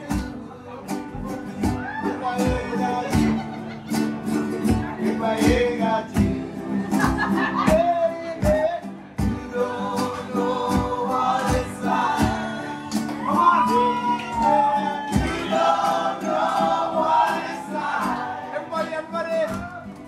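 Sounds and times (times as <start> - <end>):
song with singing and drum beat: 0.0 - 3.8, 4.5 - 18.5.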